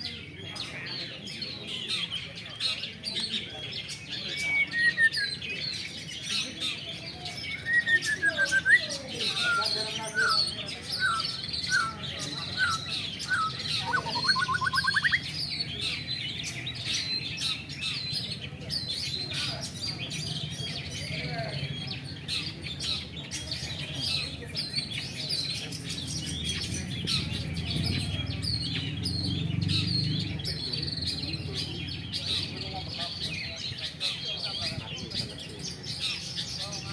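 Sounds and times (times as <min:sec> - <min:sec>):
birds chirping and whistling: 0:00.0 - 0:36.9.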